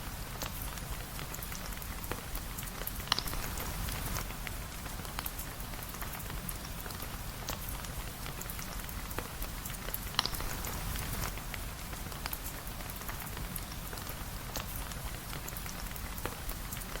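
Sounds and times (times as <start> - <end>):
rain falling: 0.0 - 17.0
raindrops ticking on a surface: 0.0 - 17.0.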